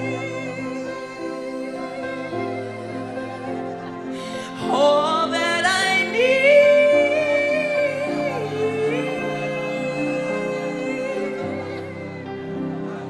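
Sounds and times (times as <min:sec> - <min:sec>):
person singing long wavering note: 0:00.0 - 0:13.0.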